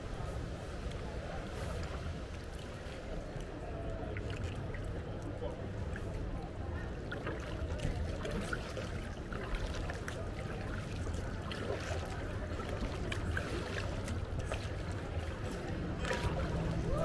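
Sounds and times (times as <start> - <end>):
steady low rumble: 0.0 - 17.0
paddle dipping into water: 0.2 - 17.0
water dripping off paddle: 1.8 - 16.8.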